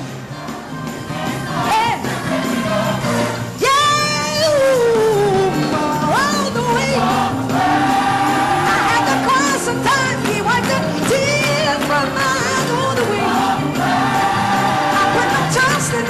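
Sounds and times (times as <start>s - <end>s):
person singing gospel: 0.9s - 16.0s.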